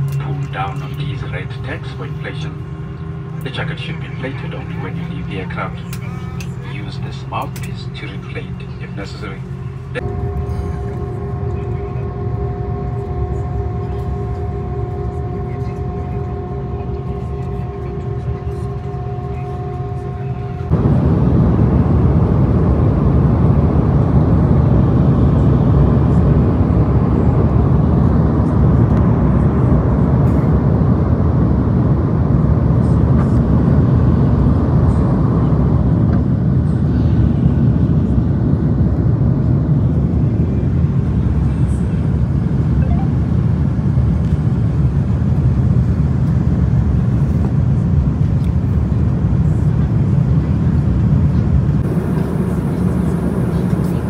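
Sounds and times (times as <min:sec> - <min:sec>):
jet engines in airliner cabin: 0:00.0 - 0:54.0.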